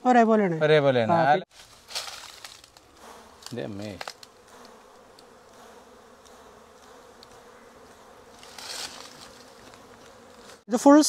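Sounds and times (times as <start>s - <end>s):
bees buzzing: 1.6s - 11.0s.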